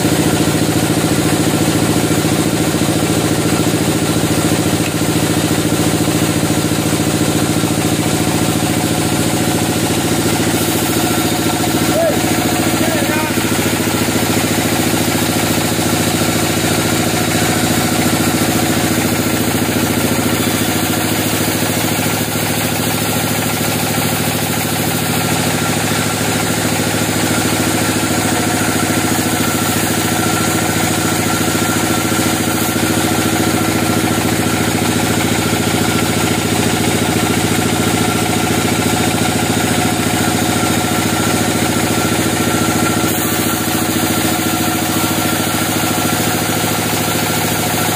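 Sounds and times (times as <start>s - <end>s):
band saw cutting through log: 0.0s - 47.9s.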